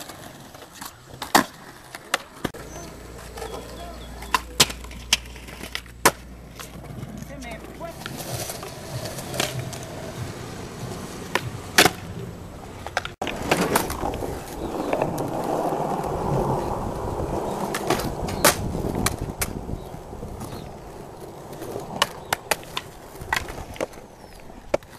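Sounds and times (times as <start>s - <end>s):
skateboard clacks: 0.0s - 24.9s
skateboard wheels rolling on concrete: 0.0s - 24.9s.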